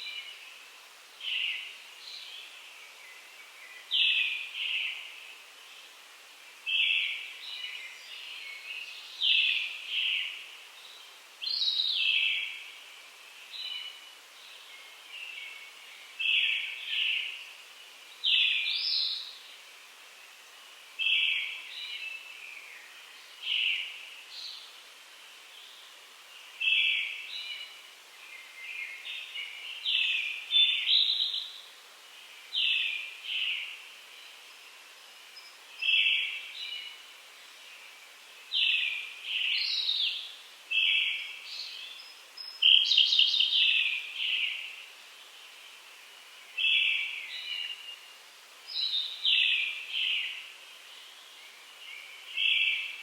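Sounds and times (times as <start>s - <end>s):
songbirds singing: 0.0s - 53.0s.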